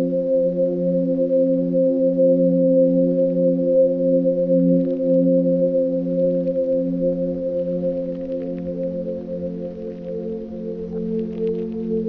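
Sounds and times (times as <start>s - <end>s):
ambient drone of held tones: 0.0s - 12.0s.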